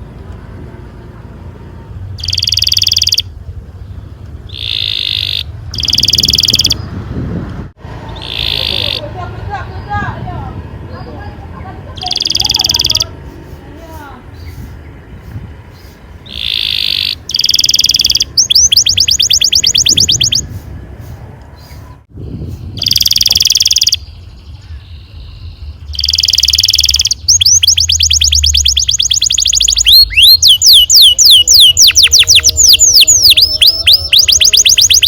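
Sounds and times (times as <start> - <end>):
canary singing: 2.1 - 7.0, 7.9 - 20.7, 21.5 - 35.0.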